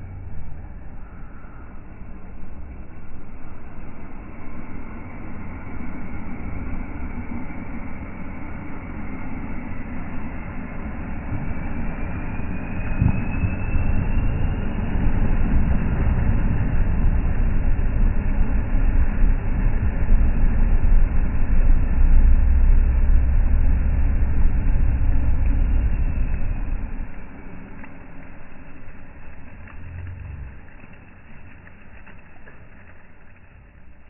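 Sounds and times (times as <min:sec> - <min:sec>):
faint rising whine: 0:00.0 - 0:34.0
wheels spinning in mud: 0:00.0 - 0:34.0.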